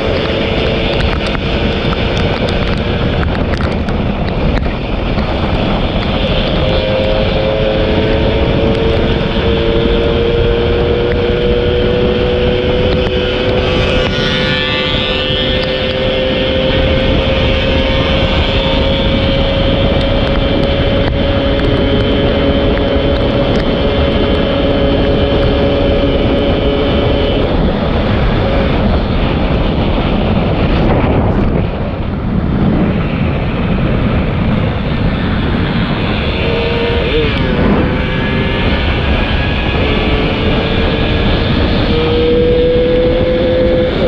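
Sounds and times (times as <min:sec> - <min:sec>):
two-stroke motorcycle engine revving: 0:00.0 - 0:44.0
wind noise: 0:00.0 - 0:44.0.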